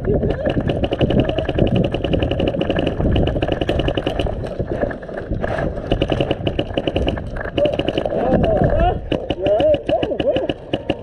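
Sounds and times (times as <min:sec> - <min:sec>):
airsoft guns firing full-auto: 0:00.3 - 0:11.0.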